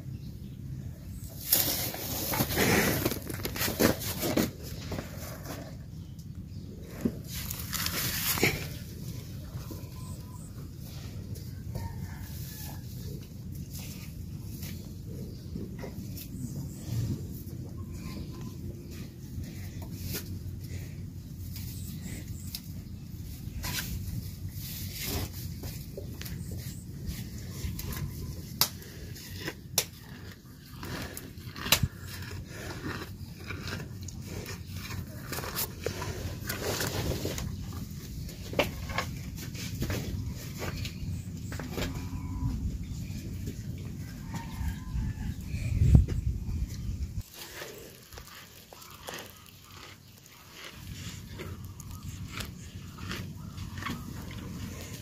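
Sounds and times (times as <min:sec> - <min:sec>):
cow chewing dry grass: 0:01.4 - 0:55.0.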